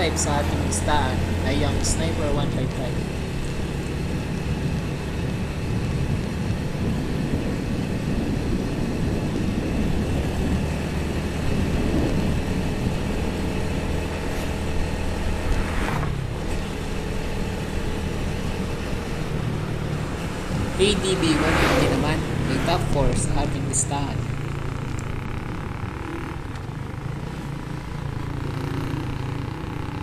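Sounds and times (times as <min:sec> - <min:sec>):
motorcycle engine cruising: 0:00.0 - 0:30.0
road and wind noise: 0:00.0 - 0:30.0.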